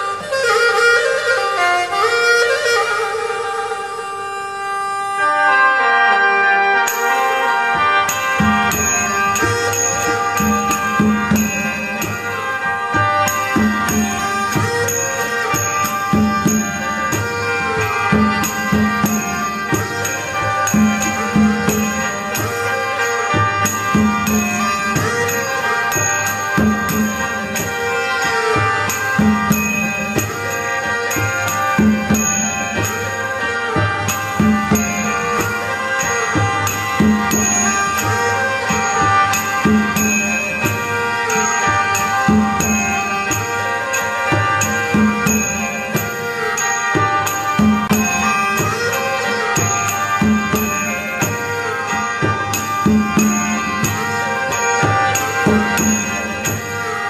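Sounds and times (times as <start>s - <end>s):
steady drum beat: 7.7s - 57.0s.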